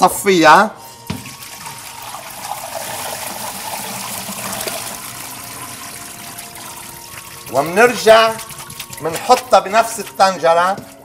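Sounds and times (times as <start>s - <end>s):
water splashing into sink: 1.1s - 10.2s.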